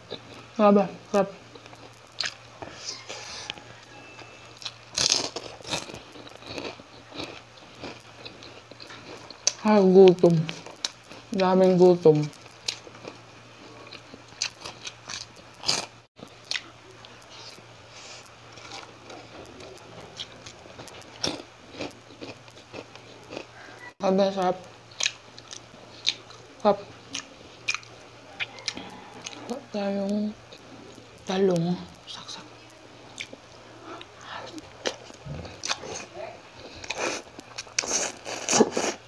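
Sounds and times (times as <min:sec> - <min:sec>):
chewing and crunching fried fish: 0:00.0 - 0:39.0.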